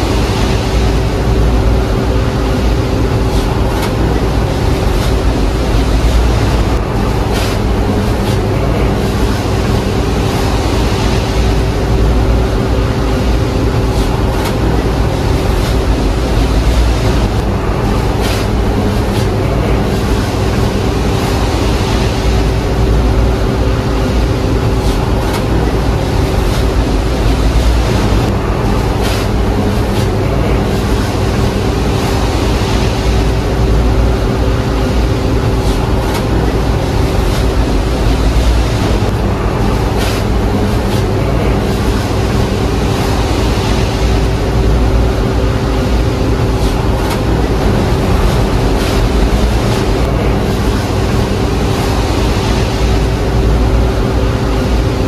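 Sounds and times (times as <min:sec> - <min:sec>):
low mechanical rumble and hum: 0:00.0 - 0:55.0.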